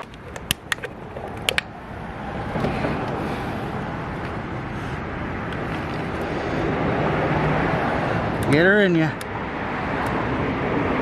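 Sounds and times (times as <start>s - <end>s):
passing vehicle: 0.0s - 11.0s.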